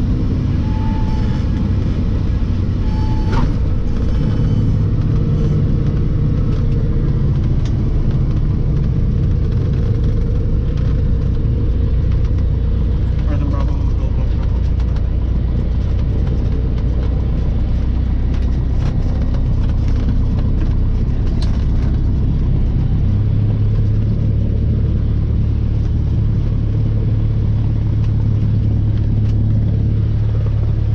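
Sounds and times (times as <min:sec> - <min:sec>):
aircraft piston engine and propeller: 0:00.0 - 0:30.9.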